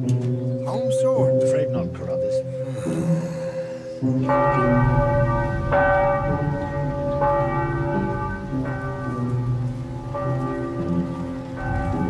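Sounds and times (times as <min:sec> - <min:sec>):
church bell tolling: 0:00.0 - 0:02.8, 0:03.4 - 0:12.0
steady drone: 0:00.0 - 0:12.0.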